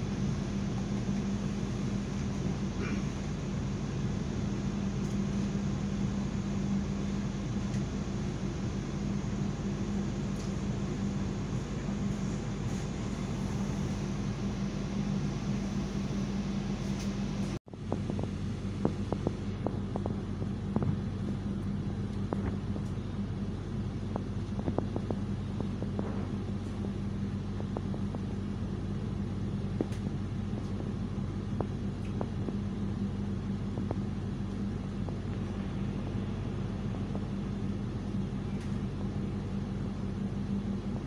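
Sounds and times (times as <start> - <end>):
passenger train rumbling: 0.0 - 41.0.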